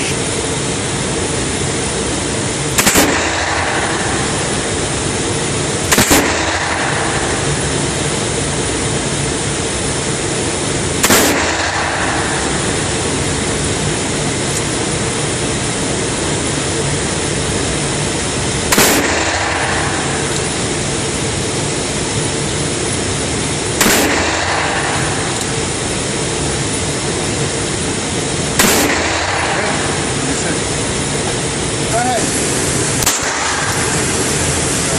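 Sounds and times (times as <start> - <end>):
loud rushing noise: 0.0 - 34.9
revolver gunshots with echo: 0.3 - 15.0, 15.7 - 34.9.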